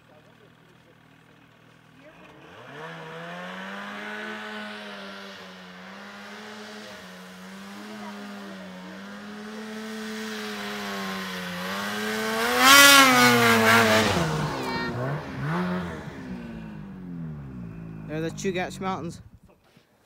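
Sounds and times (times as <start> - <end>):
snowmobile engine running: 0.0 - 19.6.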